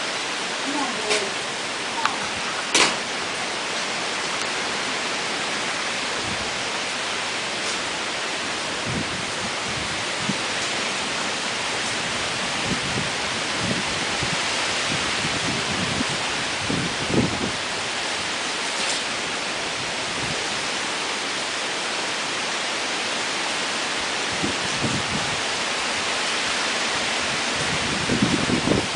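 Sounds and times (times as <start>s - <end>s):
heavy rain and wind hiss: 0.0s - 28.9s.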